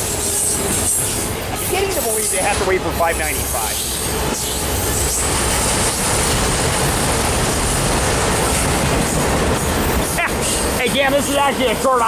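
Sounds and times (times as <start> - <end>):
freight train passing: 0.0 - 12.0.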